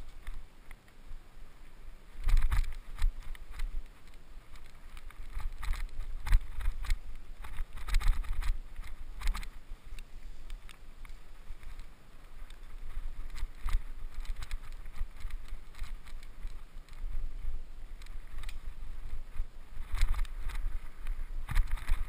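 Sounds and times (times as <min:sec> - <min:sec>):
bike rattles and clicks: 0:00.0 - 0:22.0
wind rumbling on microphone: 0:00.0 - 0:22.0.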